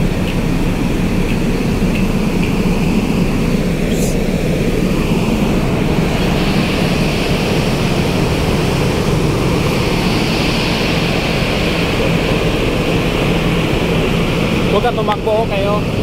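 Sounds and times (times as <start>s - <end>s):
ferry engines rumbling: 0.0s - 16.0s.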